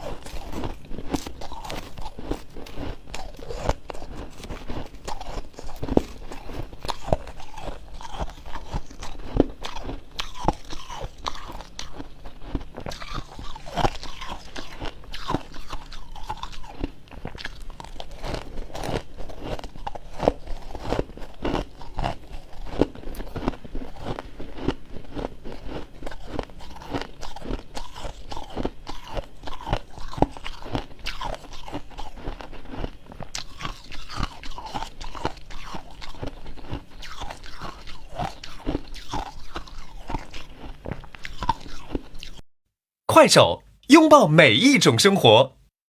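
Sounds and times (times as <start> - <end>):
crunching and chewing frost: 0.0 - 42.4.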